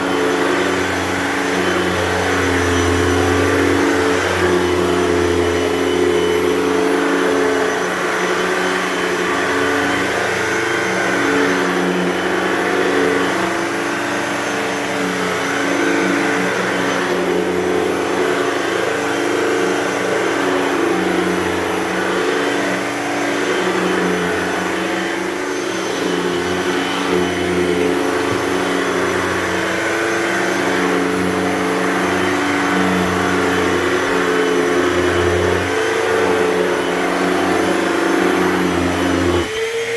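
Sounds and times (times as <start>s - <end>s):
upright vacuum running over carpet: 0.0s - 39.9s.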